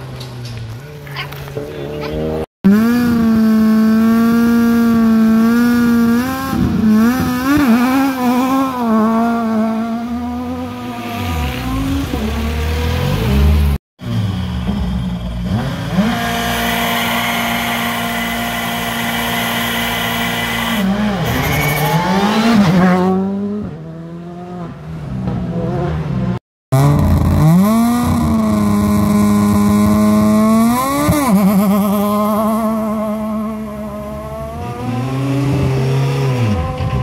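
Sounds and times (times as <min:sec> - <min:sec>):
rally car accelerating: 0:00.0 - 0:37.0
rally car engine revving: 0:00.2 - 0:37.0.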